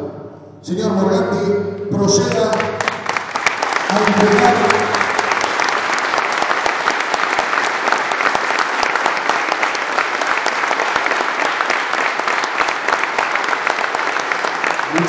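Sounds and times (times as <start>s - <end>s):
crowd applauding: 2.1s - 15.0s.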